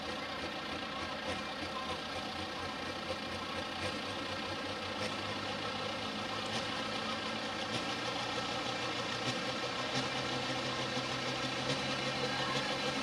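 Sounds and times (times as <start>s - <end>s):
tractor diesel engine running hard: 0.0s - 13.0s.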